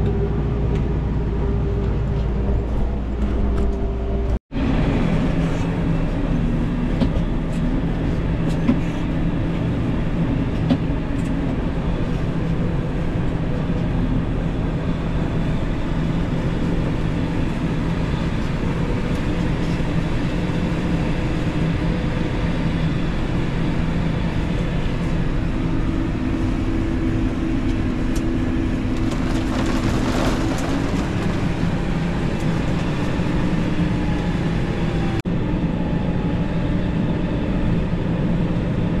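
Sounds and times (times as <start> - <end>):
tractor engine drone: 0.0 - 39.0.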